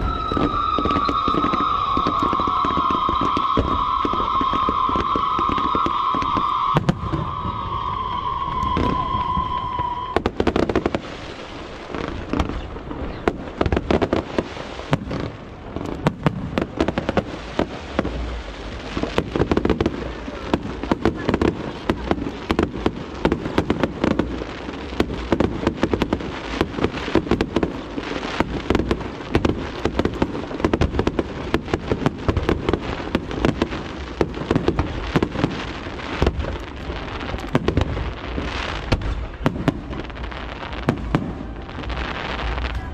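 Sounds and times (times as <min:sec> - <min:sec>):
firework whistle: 0:00.0 - 0:42.9
fireworks booming and crackling: 0:00.0 - 0:42.9.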